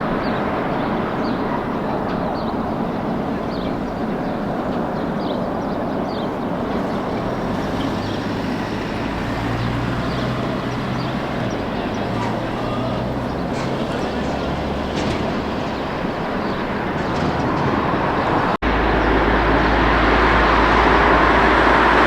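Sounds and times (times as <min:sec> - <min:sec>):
road and tyre noise: 0:00.0 - 0:22.0
truck engine low drone: 0:00.0 - 0:22.0.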